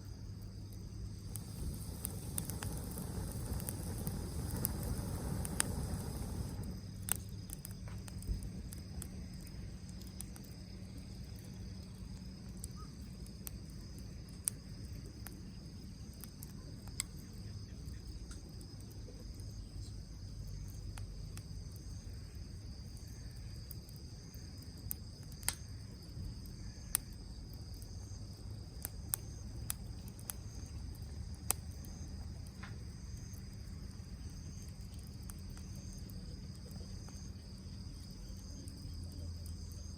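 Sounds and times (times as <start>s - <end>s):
fire crackling: 0.0s - 39.9s
insects chirring: 0.0s - 39.9s
sharp pops of fire: 0.3s - 17.4s, 23.0s - 39.9s.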